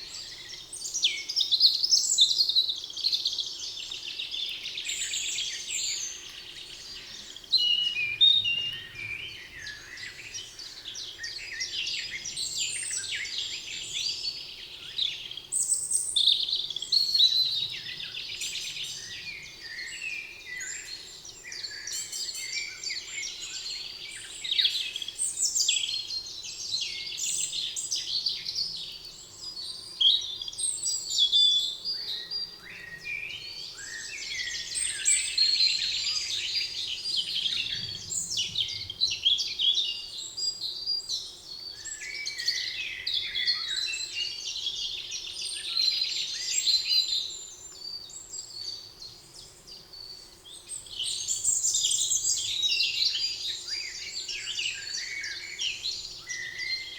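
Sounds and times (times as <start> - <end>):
songbirds chorus of trills and chirps: 0.0 - 56.9.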